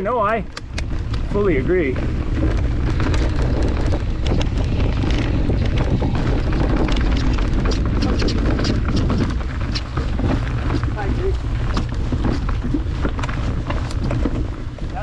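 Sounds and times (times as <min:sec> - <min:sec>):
bike clicks and rattles: 0:00.0 - 0:15.0
low rumble: 0:00.0 - 0:15.0
wind buffeting microphone: 0:00.0 - 0:15.0.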